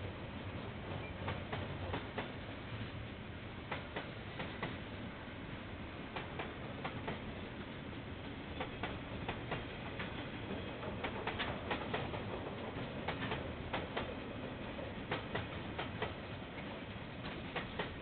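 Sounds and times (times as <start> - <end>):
train rumble: 0.0 - 18.0
train wheels clicking over joints: 0.6 - 2.5, 3.7 - 4.9, 6.1 - 18.0.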